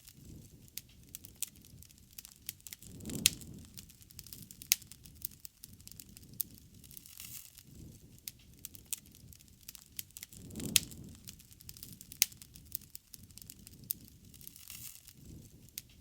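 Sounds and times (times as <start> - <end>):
burning wood popping and snapping: 0.0 - 16.0
flames rushing softly: 0.0 - 16.0.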